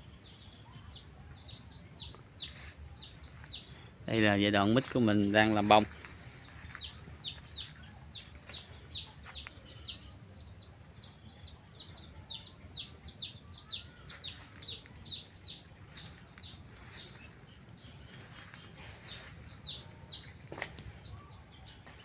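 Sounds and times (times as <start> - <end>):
small bird chirping: 0.0 - 22.0.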